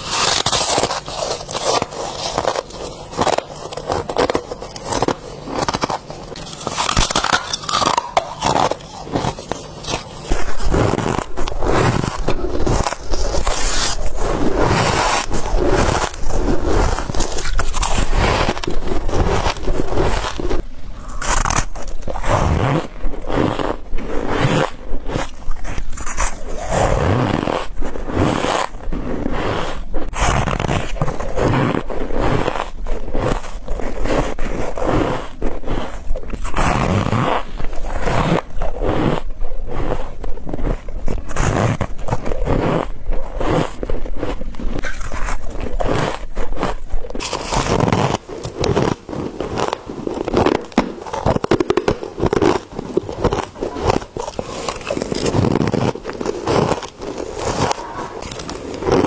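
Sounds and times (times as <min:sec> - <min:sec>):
chewing ice squeaky crunches: 0:00.0 - 0:59.0.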